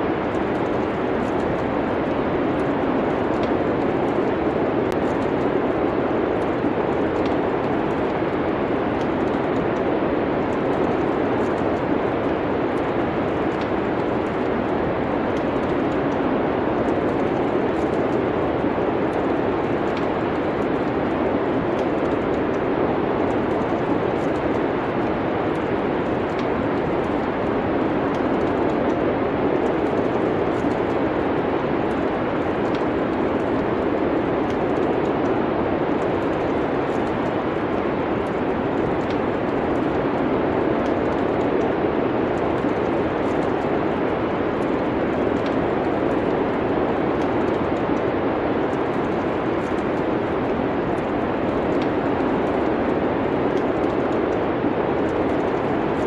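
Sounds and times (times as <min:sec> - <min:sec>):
faint fireplace crackles: 0:00.0 - 0:56.0
steady wind: 0:00.0 - 0:56.0.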